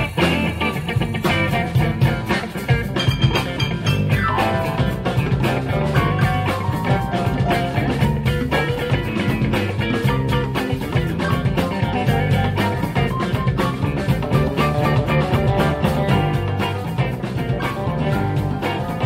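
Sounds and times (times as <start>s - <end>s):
electric blues band playing: 0.0s - 19.0s.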